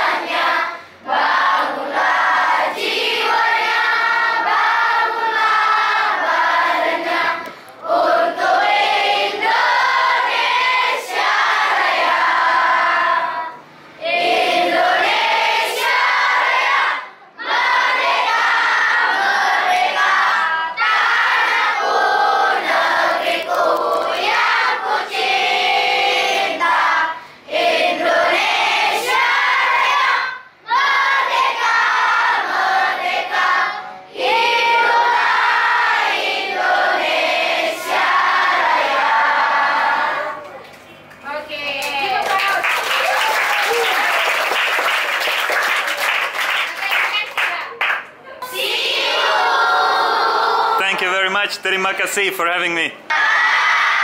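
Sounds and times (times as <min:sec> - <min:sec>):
children singing in unison: 0:00.0 - 0:40.4, 0:48.5 - 0:50.8, 0:53.1 - 0:54.0.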